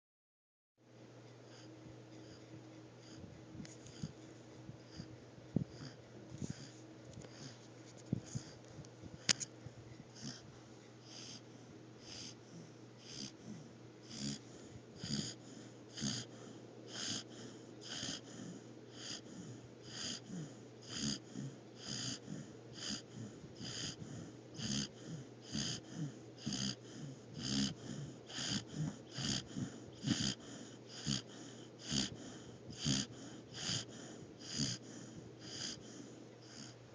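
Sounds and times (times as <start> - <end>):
puppy snoring: 1.5 - 36.9.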